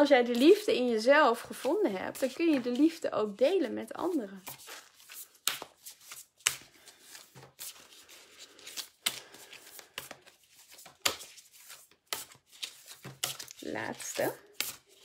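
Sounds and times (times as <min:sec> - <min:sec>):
cards being shuffled: 0:01.3 - 0:03.0, 0:04.0 - 0:15.0.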